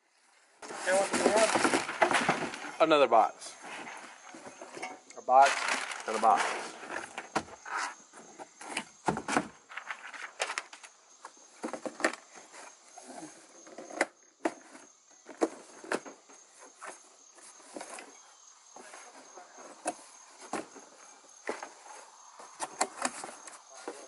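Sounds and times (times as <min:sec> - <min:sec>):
high pulsing insect chirp: 0:00.8 - 0:24.0.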